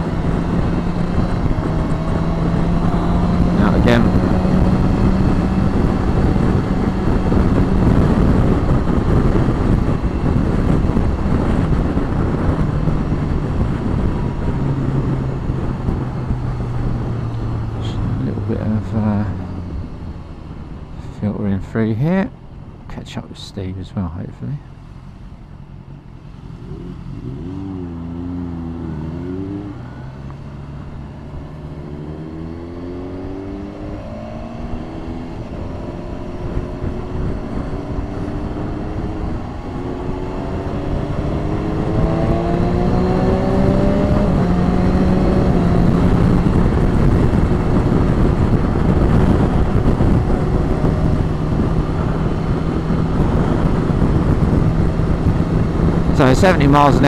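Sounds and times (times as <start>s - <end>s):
motorcycle engine accelerating: 0.0s - 21.1s, 25.9s - 57.0s
wind rush: 0.0s - 23.0s, 25.4s - 57.0s.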